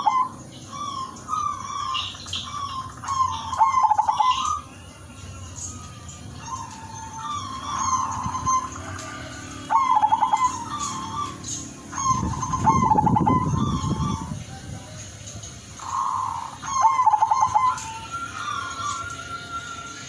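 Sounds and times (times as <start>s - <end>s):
dove cooing: 0.0s - 4.7s, 6.3s - 14.9s, 15.8s - 20.0s.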